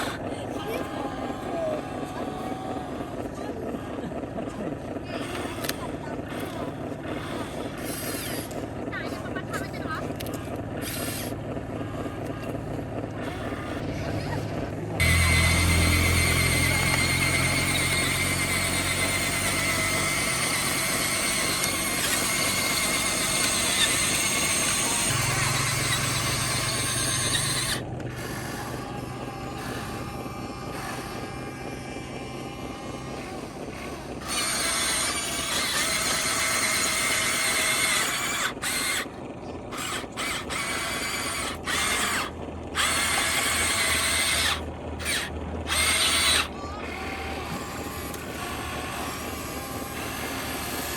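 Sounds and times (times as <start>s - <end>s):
electric motors whirring whine: 0.0s - 50.9s.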